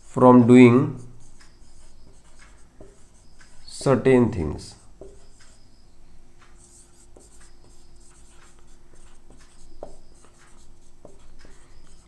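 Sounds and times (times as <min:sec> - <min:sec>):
marker squeaking on a whiteboard: 0:00.0 - 0:12.0.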